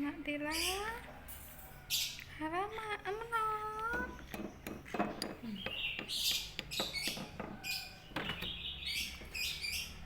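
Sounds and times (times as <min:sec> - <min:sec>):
birds chirping: 0:00.2 - 0:10.0.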